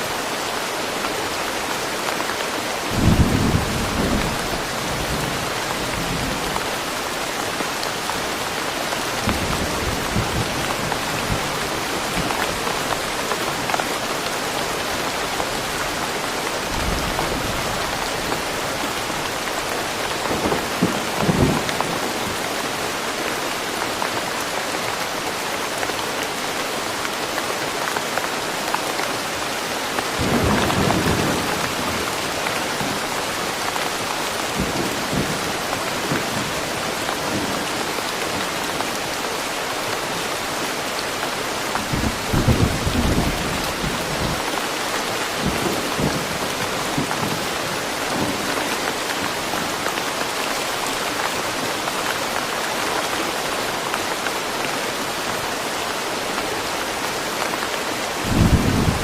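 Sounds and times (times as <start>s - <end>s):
rain falling in forest: 0.0s - 59.0s.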